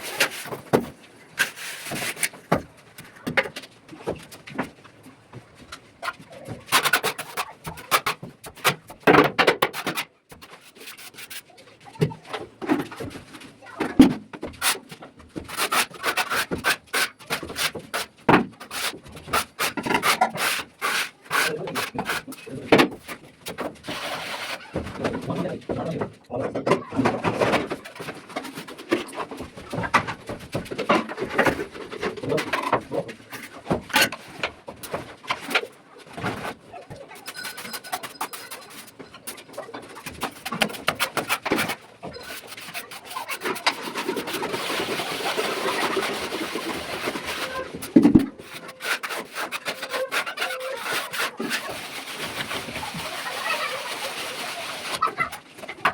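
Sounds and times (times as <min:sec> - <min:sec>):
plastering tool scraping mortar: 0:00.0 - 0:03.4, 0:06.0 - 0:12.2, 0:13.7 - 0:26.0, 0:26.9 - 0:55.9.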